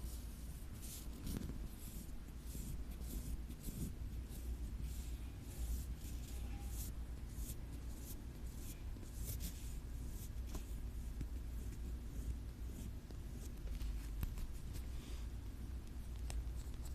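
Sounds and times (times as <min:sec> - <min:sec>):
scratching on an object: 0:00.0 - 0:14.9.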